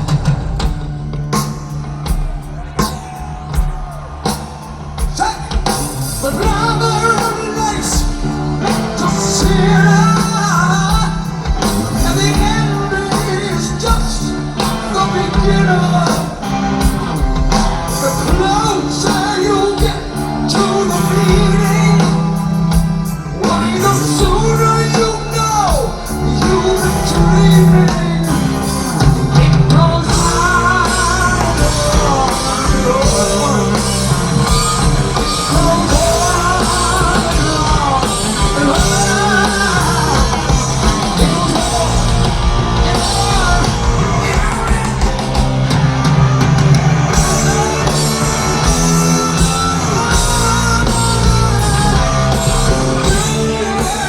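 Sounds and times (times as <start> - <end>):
live heavy metal band: 0.0 - 54.0
person singing: 5.0 - 17.0, 17.7 - 54.0.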